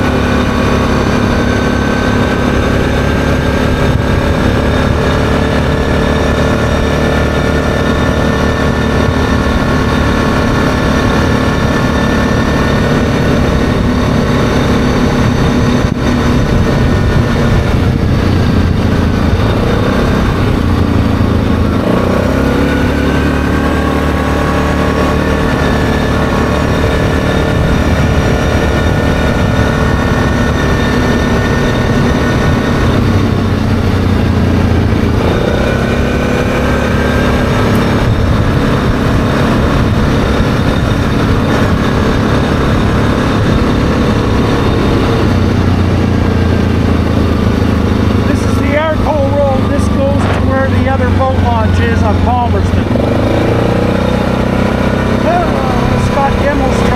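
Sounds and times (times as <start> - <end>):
atv engine running: 0.0 - 56.9.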